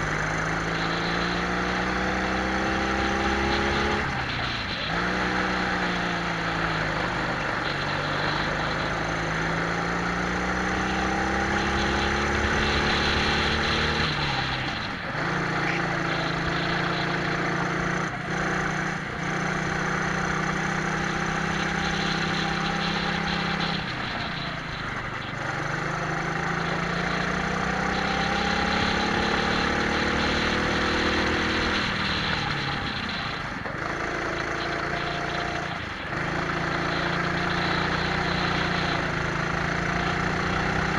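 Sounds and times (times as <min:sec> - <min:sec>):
kart engines revving: 0:00.0 - 0:40.9.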